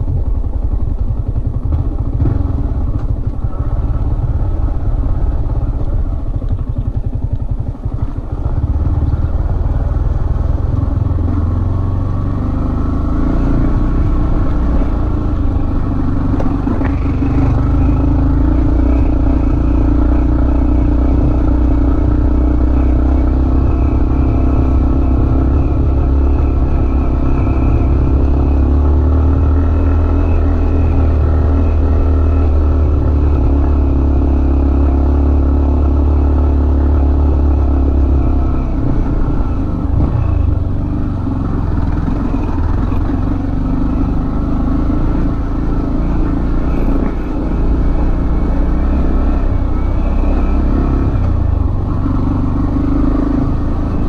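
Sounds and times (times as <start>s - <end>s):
motorcycle engine pulling uphill: 0.0s - 54.0s.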